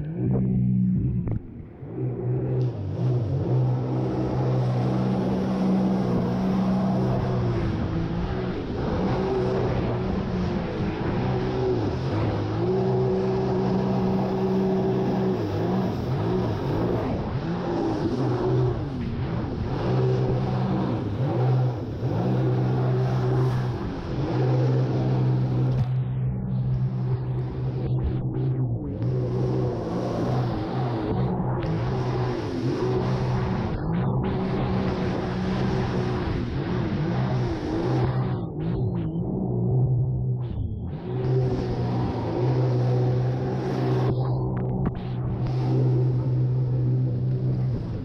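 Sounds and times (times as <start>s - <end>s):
jet ski engine running: 0.0s - 48.0s.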